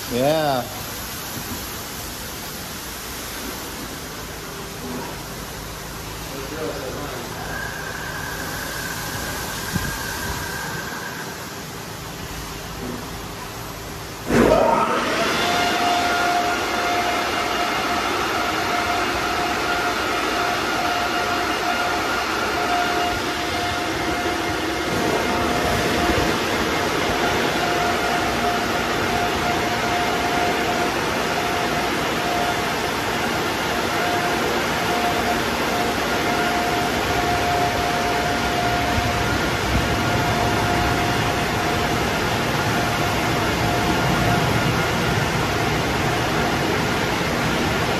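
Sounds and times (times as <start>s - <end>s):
dryer blowers air rush: 0.0s - 47.9s
steady high whine: 0.0s - 47.9s.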